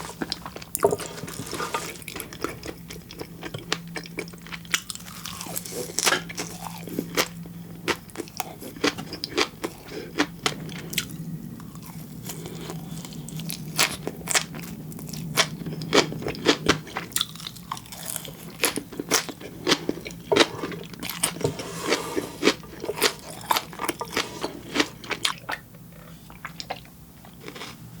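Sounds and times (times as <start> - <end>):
close chewing with crunchy pops: 0.0 - 21.6, 22.4 - 27.8.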